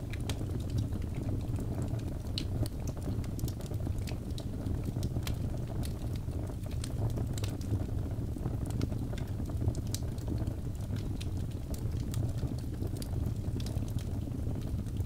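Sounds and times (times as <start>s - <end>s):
fire crackling and popping: 0.0s - 15.0s
fire flame rumbling: 0.0s - 15.0s.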